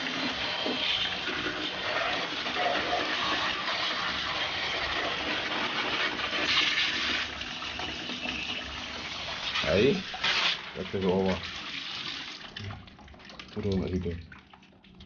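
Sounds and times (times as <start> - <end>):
water spraying and splashing: 0.0 - 14.2.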